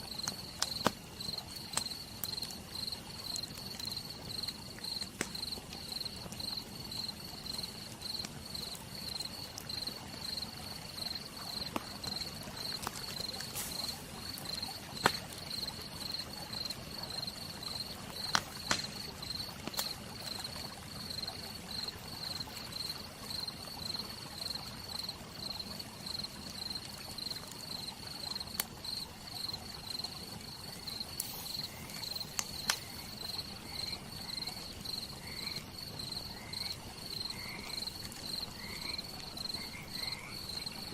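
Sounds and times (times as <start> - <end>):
campfire crackling and popping: 0.0 - 23.6, 24.2 - 40.9
crickets chirping: 0.0 - 40.9.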